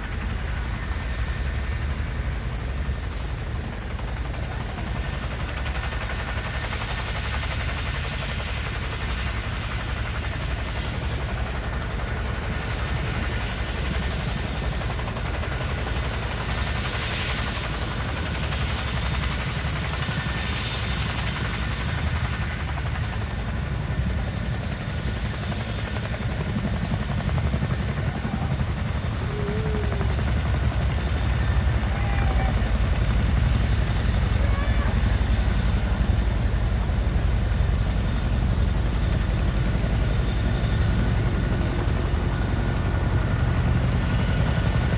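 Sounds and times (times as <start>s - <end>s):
helicopter rotor beat: 0.0s - 44.9s
high turbine whine: 0.0s - 44.9s.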